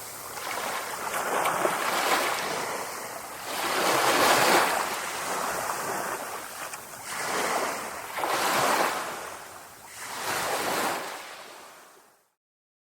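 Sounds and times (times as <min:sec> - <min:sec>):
sea waves washing in: 0:00.0 - 0:12.2.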